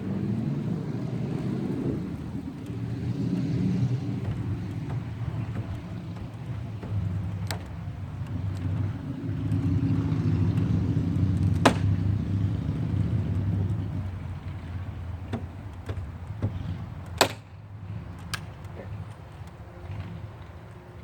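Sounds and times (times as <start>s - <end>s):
motor vehicle rumble: 0.0s - 21.0s.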